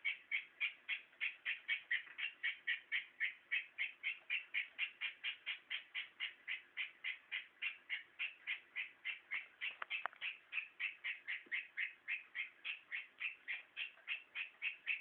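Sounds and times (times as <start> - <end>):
pet chirping: 0.0 - 15.0.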